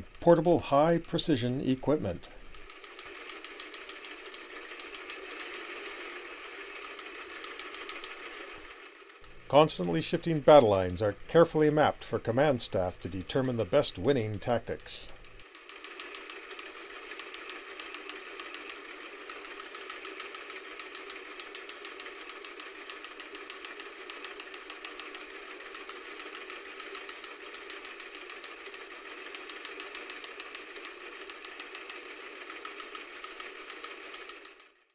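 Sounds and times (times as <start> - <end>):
film projector clatter: 0.0 - 34.9.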